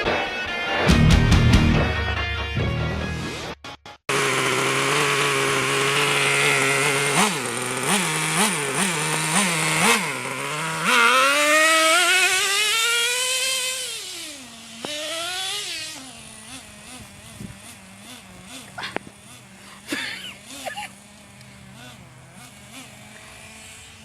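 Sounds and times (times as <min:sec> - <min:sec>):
small nitro engine revving: 0:04.1 - 0:24.0.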